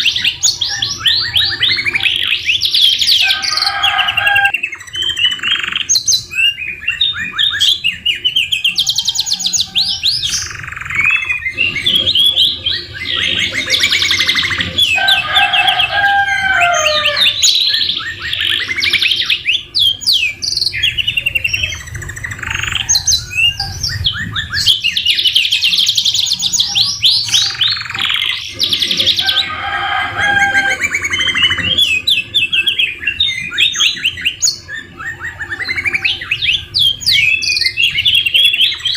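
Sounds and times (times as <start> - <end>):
canaries singing: 0.0 - 38.9.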